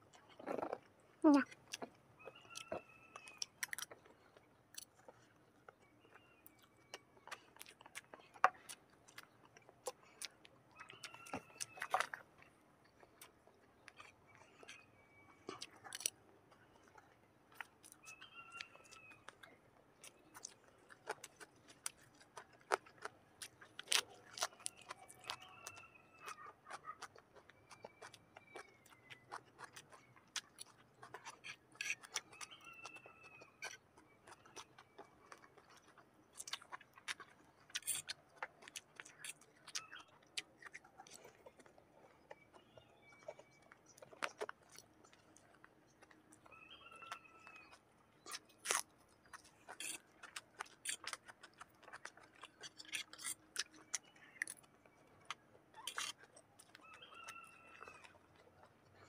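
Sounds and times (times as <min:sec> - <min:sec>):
chewing and slurping noodles: 0:00.0 - 0:59.0.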